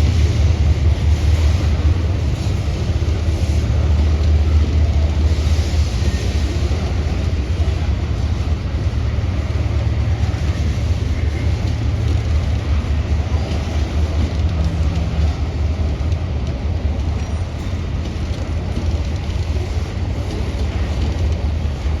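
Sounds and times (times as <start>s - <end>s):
diesel locomotives rumbling: 0.0s - 22.0s.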